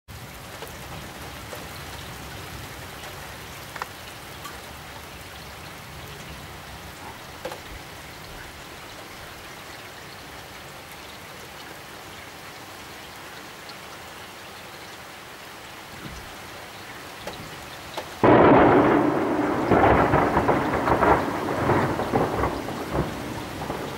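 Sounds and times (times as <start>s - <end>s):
heavy rain falling: 0.1s - 23.9s.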